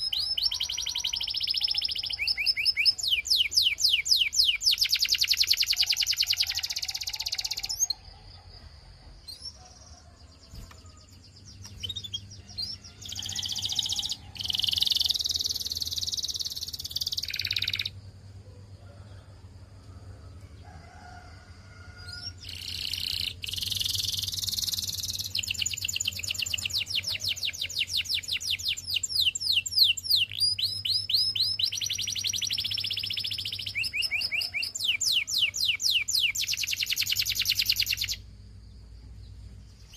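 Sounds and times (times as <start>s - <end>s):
canary singing trills: 0.0s - 18.2s, 22.0s - 38.4s.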